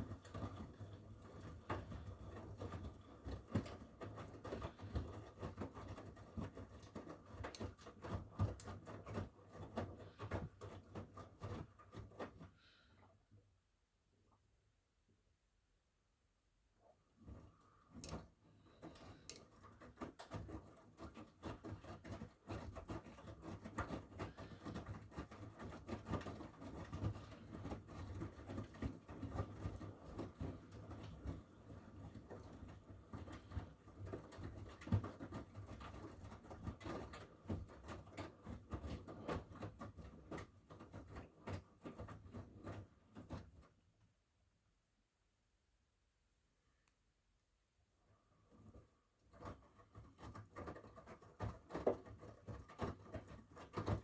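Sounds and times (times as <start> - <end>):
laundry sloshing in washing machine: 0.0 - 12.9, 17.2 - 43.8, 48.6 - 54.0.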